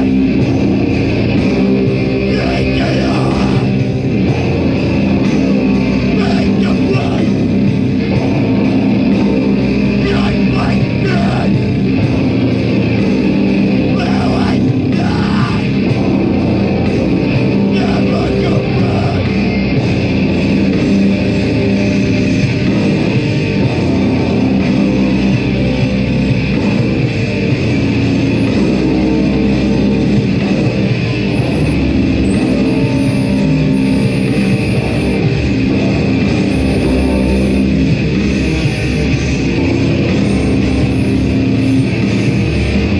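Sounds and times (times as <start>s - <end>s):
heavy metal band playing live: 0.0s - 42.9s.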